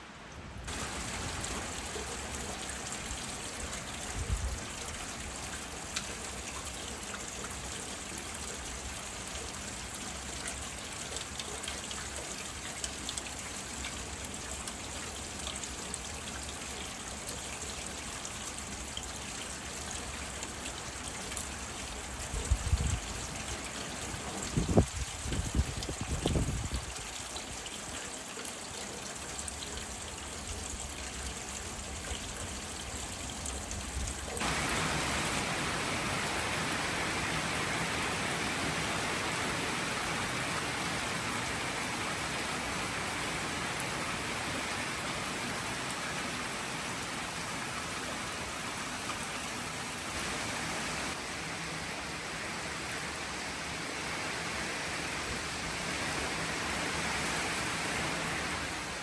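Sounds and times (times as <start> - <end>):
rain and running water: 0.0 - 59.0.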